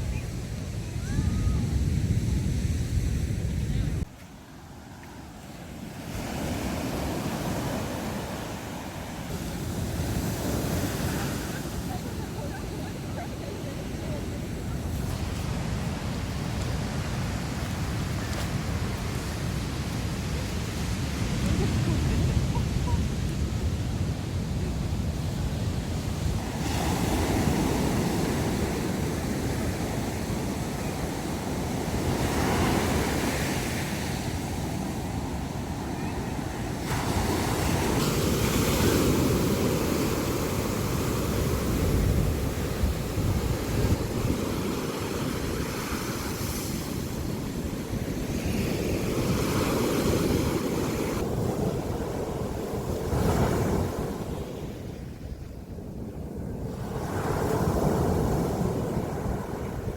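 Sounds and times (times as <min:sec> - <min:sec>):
wind buffeting microphone: 0:00.0 - 0:04.1, 0:05.8 - 0:59.9
sea waves breaking on beach: 0:04.0 - 0:59.9.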